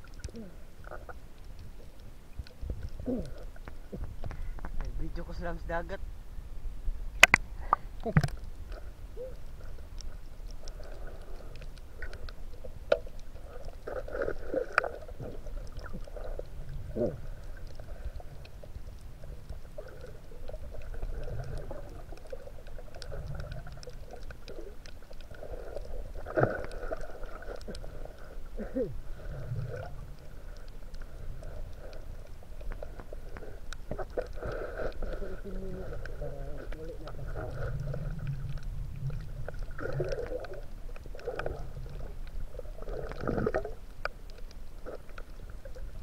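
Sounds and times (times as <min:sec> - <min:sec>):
faint clicks: 0:00.0 - 0:05.0, 0:07.2 - 0:28.5, 0:29.2 - 0:46.0
underwater rumble of moving water: 0:00.0 - 0:46.0.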